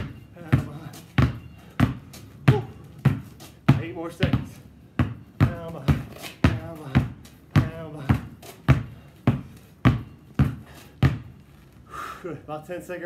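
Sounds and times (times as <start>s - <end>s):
basketballs bouncing on concrete: 0.0s - 11.6s.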